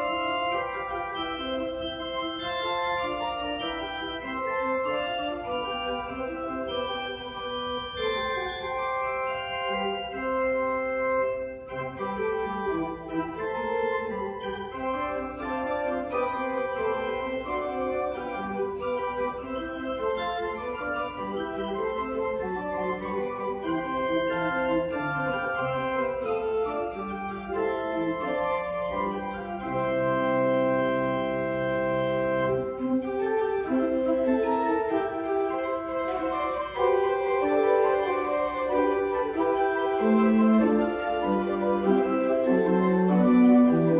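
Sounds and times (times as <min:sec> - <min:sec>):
organ playing chords: 0:00.0 - 0:43.9.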